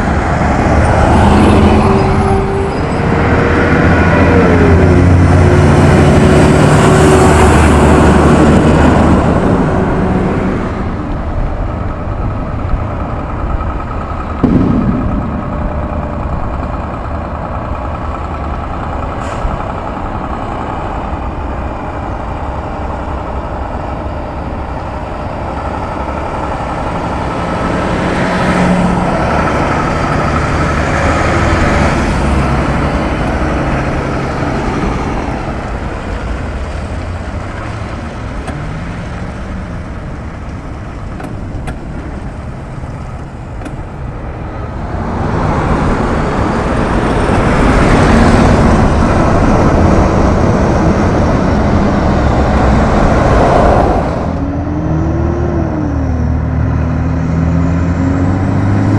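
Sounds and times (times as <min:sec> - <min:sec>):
heavy truck engines running: 0:00.0 - 0:58.9
road noise: 0:00.0 - 0:58.9.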